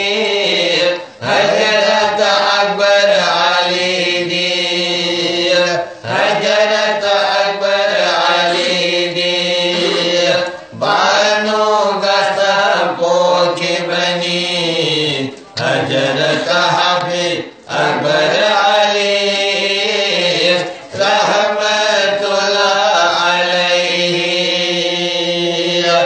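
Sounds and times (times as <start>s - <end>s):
men singing devotional song: 0.0s - 26.0s.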